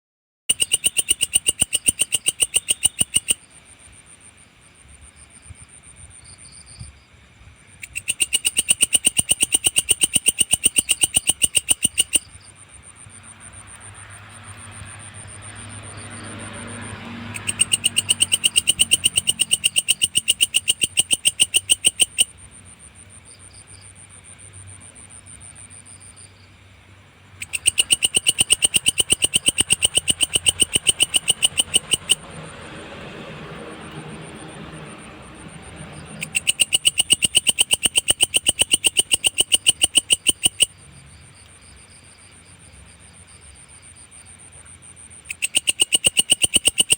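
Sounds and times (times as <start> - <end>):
grasshopper chirring: 0.5 - 3.5, 7.8 - 26.5, 27.2 - 46.9.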